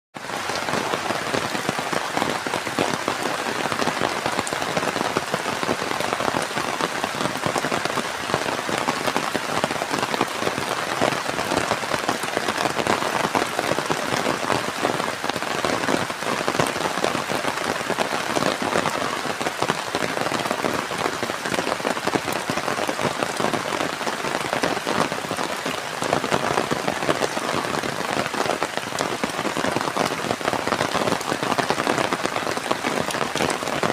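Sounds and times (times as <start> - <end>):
heavy rain pattering: 0.1 - 33.9.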